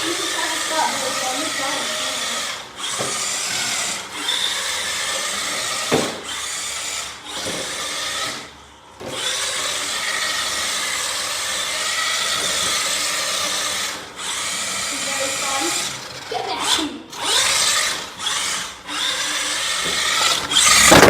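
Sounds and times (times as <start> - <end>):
toy car electric motor whining: 0.0 - 21.0.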